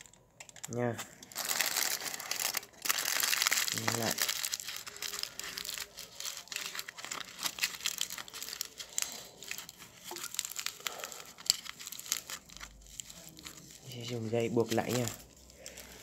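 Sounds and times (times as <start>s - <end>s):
aluminium foil crinkling: 0.0s - 16.0s.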